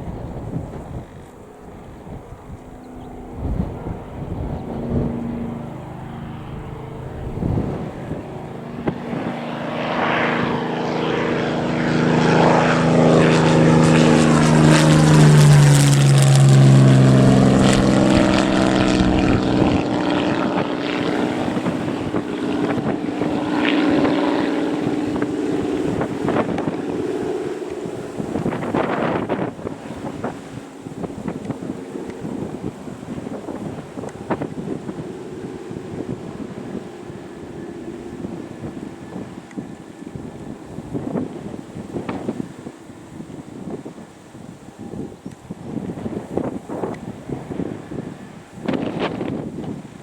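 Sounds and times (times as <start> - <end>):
low-flying aircraft passing: 0.0 - 50.0.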